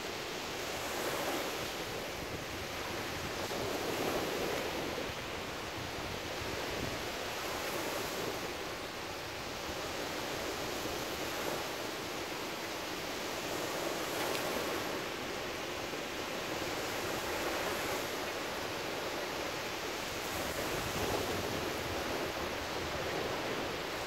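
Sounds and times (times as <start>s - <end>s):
ocean waves breaking on beach: 0.0s - 24.0s.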